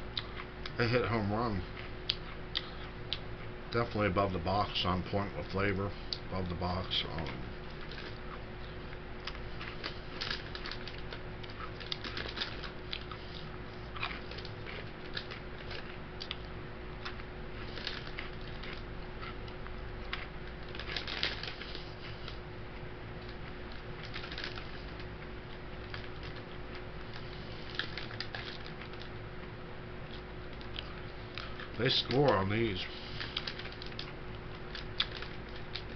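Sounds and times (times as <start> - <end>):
person chewing crunchy crackers: 0.0 - 4.1, 5.4 - 35.9
steady low hum: 0.0 - 35.9.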